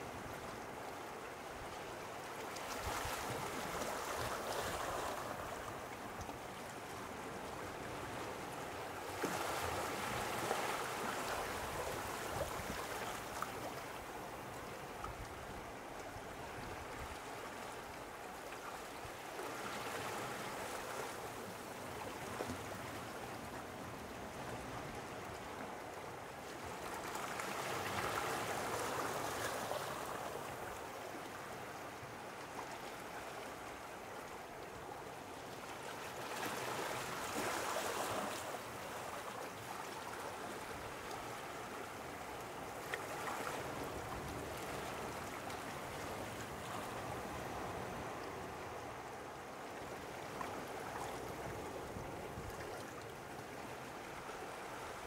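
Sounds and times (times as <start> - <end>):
small waves washing on shore: 0.0 - 55.0.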